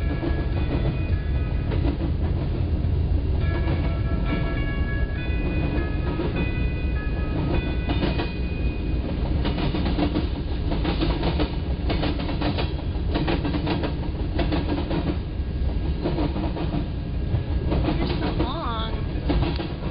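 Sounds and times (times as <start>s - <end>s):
freight train rumbling: 0.0s - 19.9s
steady warning tones: 0.0s - 19.9s
wheels clattering over rail joints: 0.0s - 19.9s.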